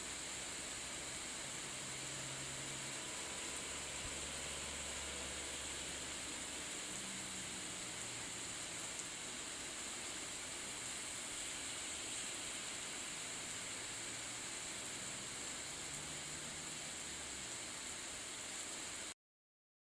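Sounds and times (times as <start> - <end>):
rain falling: 0.0 - 19.2.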